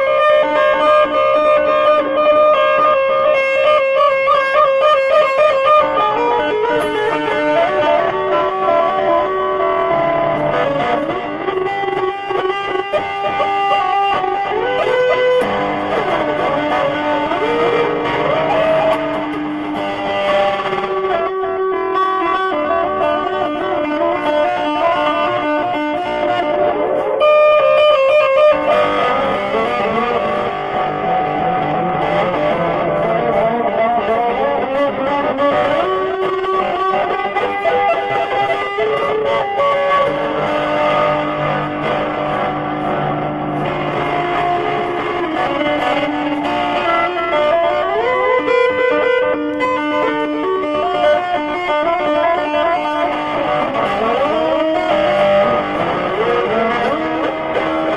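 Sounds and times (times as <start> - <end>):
electric guitar music: 0.0 - 57.9.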